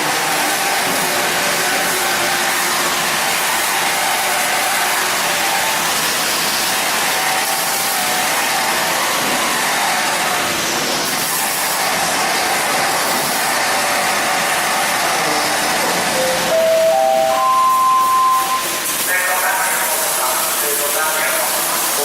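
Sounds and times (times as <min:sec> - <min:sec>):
welding arc hissing: 0:00.0 - 0:22.0.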